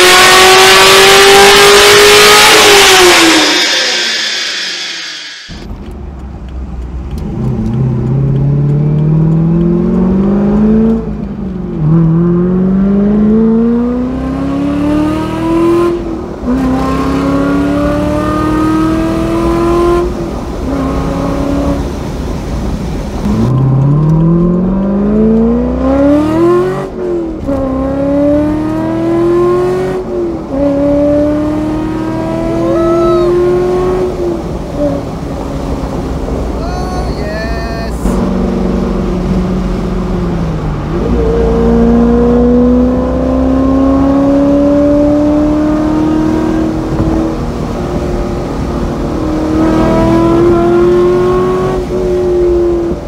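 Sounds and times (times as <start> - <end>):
car accelerating through gears: 0.0 - 5.6, 7.2 - 21.9, 23.2 - 36.5, 38.0 - 53.0
car engine revving high: 0.0 - 5.7, 11.8 - 21.9, 23.2 - 35.2, 36.3 - 53.0.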